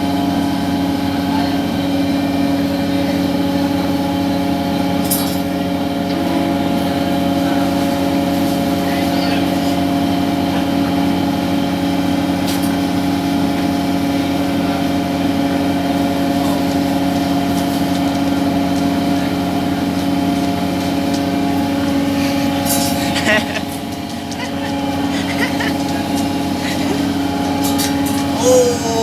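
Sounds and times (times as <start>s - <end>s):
boat machinery droning: 0.0s - 29.0s.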